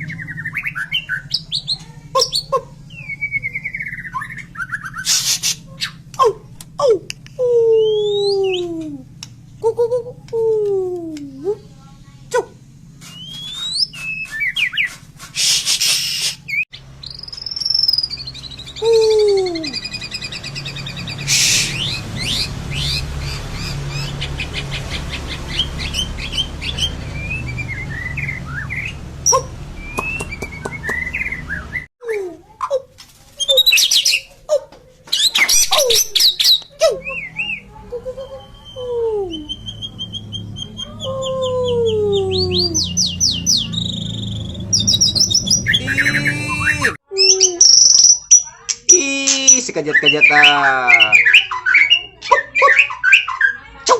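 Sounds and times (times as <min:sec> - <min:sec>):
songbird singing whistles and trills: 0:00.0 - 0:06.2, 0:06.8 - 0:09.0, 0:13.1 - 0:32.2, 0:33.4 - 0:34.4, 0:35.1 - 0:53.9.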